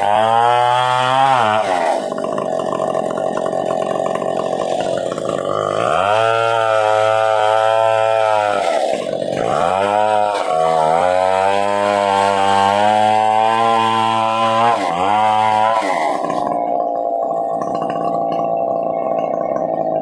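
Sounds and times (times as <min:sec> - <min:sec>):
chainsaw cutting at high revs: 0:00.0 - 0:20.0.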